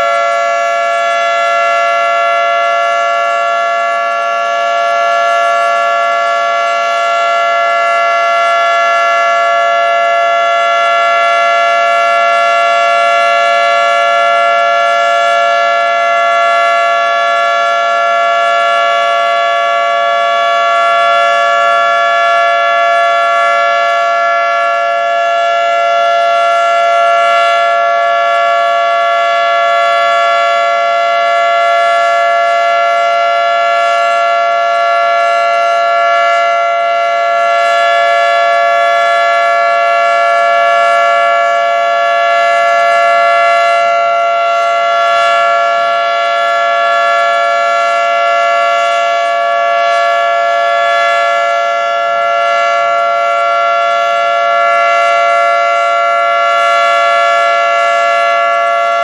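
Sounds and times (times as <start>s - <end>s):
siren held chord: 0.0s - 59.0s.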